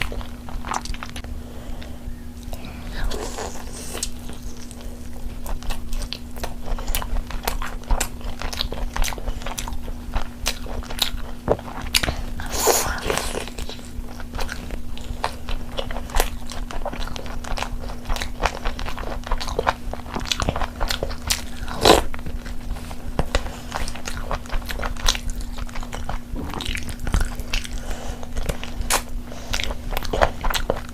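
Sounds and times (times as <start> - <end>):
faint steady hum: 0.0 - 30.9
person chewing and crunching: 0.0 - 30.9.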